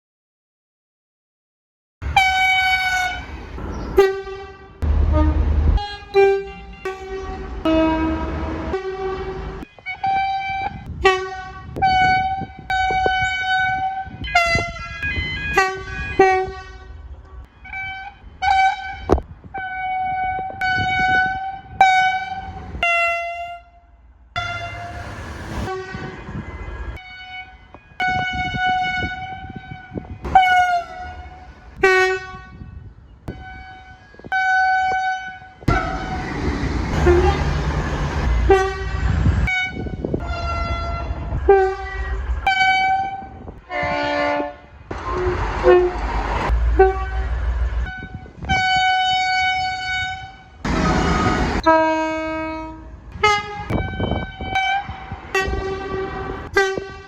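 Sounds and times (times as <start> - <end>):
low rumble of moving trains: 2.0 - 57.0
train air horns: 2.0 - 57.0.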